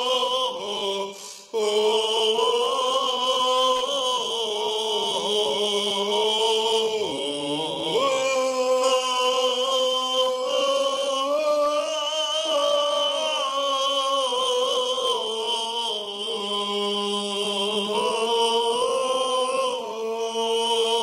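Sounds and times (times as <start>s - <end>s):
voices chanting long notes: 0.0s - 21.0s.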